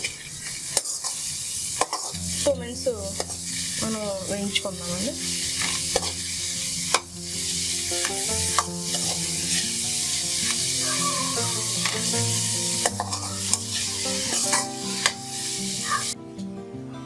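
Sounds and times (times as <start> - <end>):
metal spoon scraping a pan: 0.0 - 2.5, 3.1 - 4.0, 4.9 - 16.2
vegetables sizzling in hot oil: 0.0 - 16.2.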